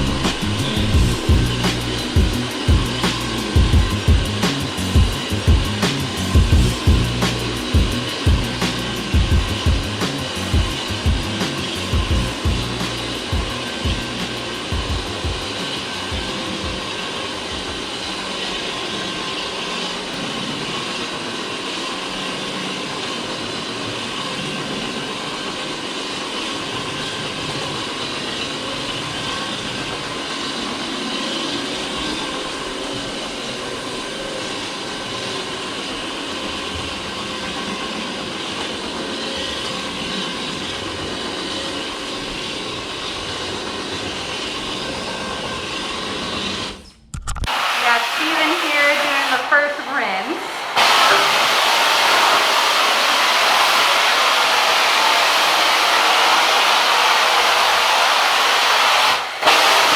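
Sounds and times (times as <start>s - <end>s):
cleaning machinery roaring: 0.0s - 46.8s, 47.5s - 59.9s.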